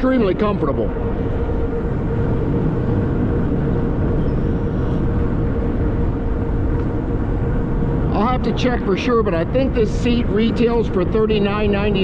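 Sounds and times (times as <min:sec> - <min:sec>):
faint motor whine: 0:00.0 - 0:12.0
wind and road noise: 0:00.0 - 0:12.0.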